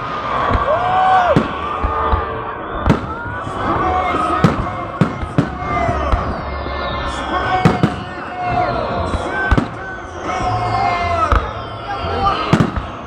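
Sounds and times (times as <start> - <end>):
fireworks bangs: 0.0 - 11.6, 12.2 - 13.0
voices: 0.0 - 13.0
music: 1.4 - 13.0.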